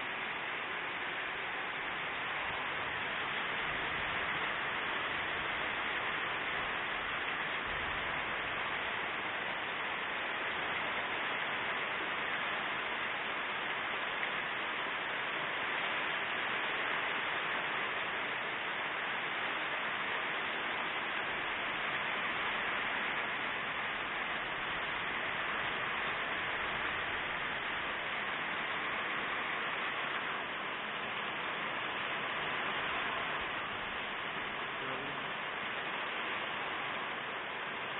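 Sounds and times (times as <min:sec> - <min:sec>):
heavy rain hiss: 0:00.0 - 0:37.9.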